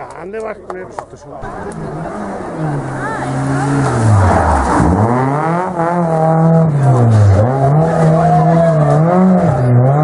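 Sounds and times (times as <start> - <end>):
rally car engine revving: 1.4 - 10.0.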